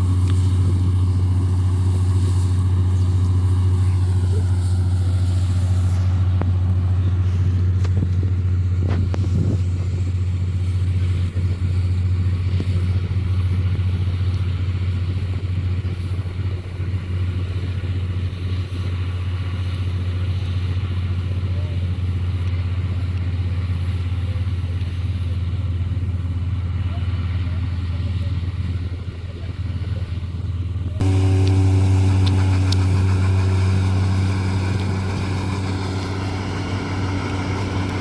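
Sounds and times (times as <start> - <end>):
combine harvester engine drone: 0.0 - 38.0.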